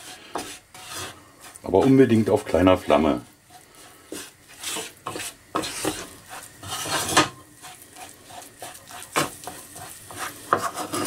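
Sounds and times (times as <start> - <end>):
wooden spatula scraping a pan: 0.0 - 11.0.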